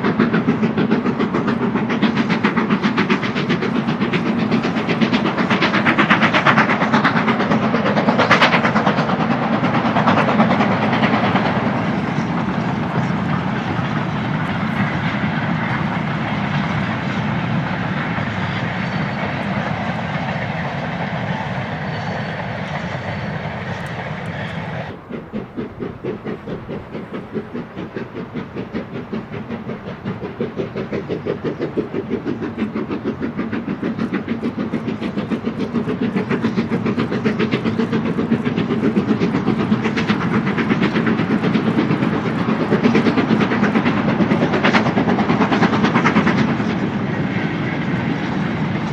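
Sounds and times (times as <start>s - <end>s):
steam locomotive exhaust: 0.0s - 48.9s.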